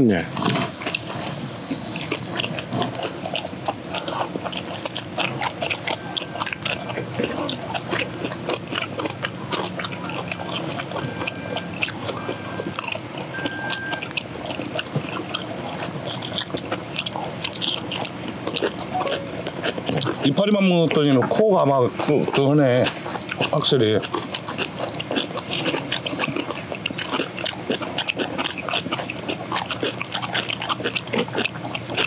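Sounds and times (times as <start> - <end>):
people chewing crunchy food: 0.0 - 32.0.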